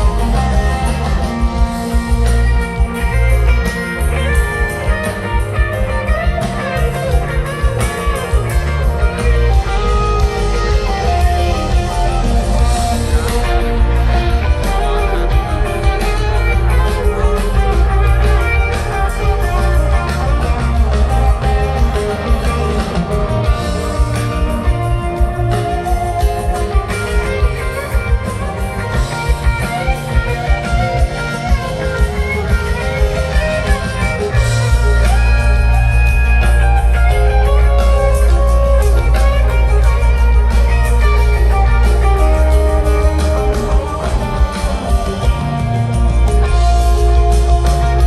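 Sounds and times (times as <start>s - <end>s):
bass guitar: 0.0s - 48.0s
electric guitar lines: 0.0s - 48.0s
live rock band playing: 0.0s - 48.0s.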